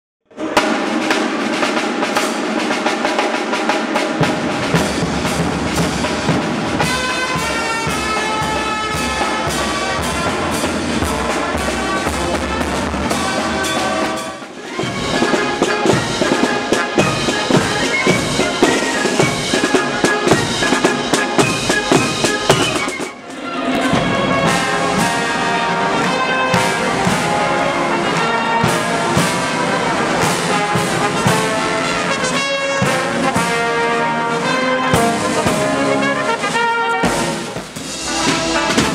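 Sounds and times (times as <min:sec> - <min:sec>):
military brass band marches: 0:00.4 - 0:38.9.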